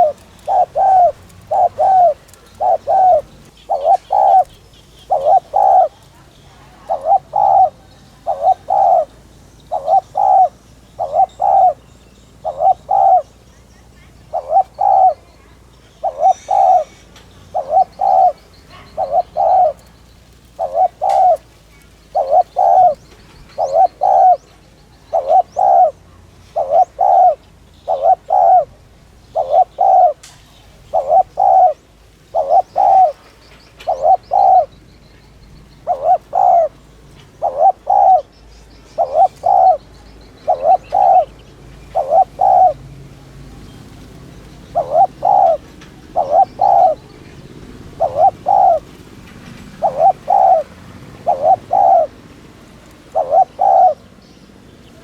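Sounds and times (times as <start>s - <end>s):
faint bird chirps: 0.0s - 28.7s, 29.3s - 42.8s, 44.4s - 48.9s, 49.8s - 50.7s
dove cooing: 0.0s - 54.3s.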